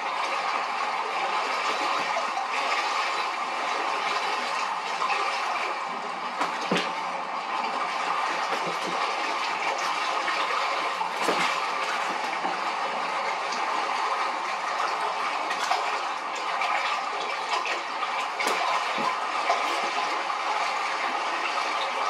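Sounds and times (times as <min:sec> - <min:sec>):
rushing bubbling water: 0:00.0 - 0:22.0.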